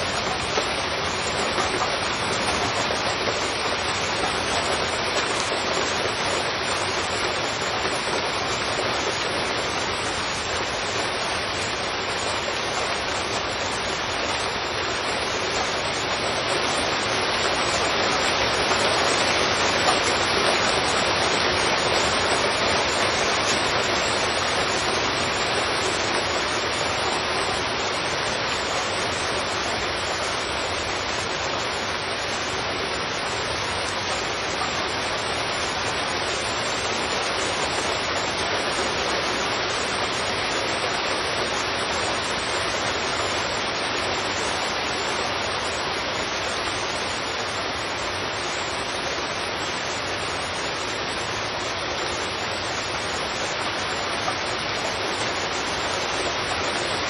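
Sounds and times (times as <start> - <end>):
heavy rain on a street: 0.0 - 57.0.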